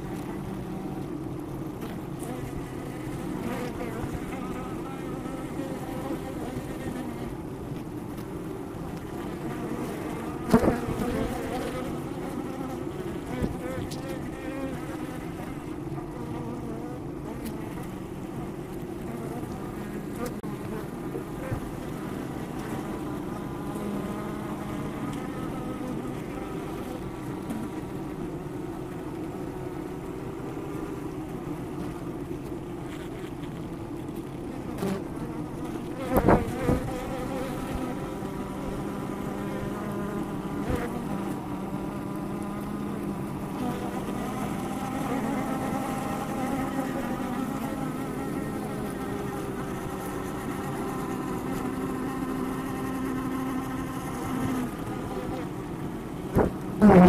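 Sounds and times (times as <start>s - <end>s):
honey bees buzzing: 0.0s - 57.0s.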